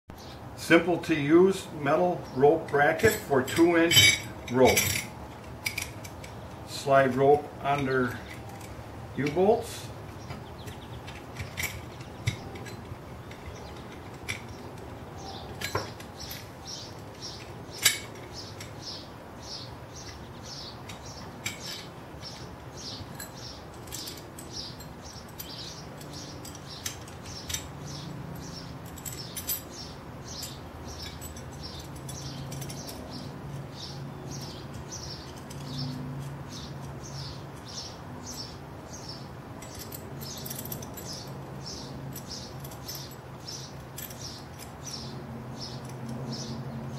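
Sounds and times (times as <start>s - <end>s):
steel parts clinking: 2.6s - 19.0s, 20.0s - 46.6s.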